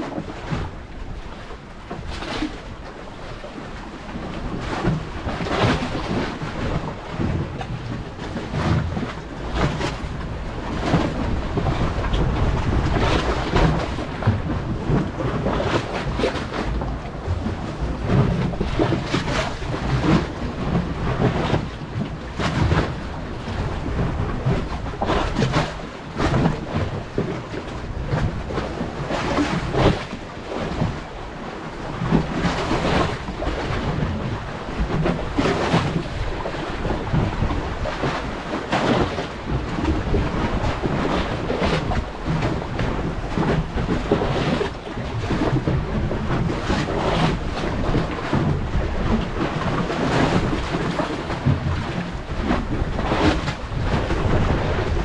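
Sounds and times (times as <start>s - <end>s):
waves washing against breakwater: 0.0s - 55.0s
wind buffeting microphone: 0.0s - 55.0s.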